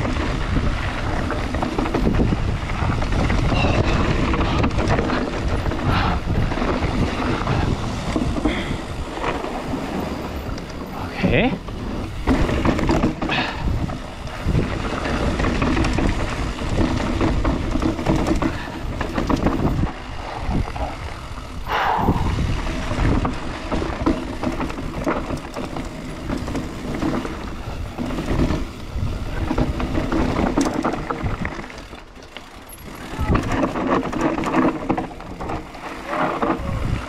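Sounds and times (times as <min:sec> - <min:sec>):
wind buffeting microphone: 0:00.0 - 0:31.8, 0:32.5 - 0:37.0
bike knocks and rattles: 0:00.0 - 0:37.0
bike tyre rumble: 0:00.0 - 0:37.0.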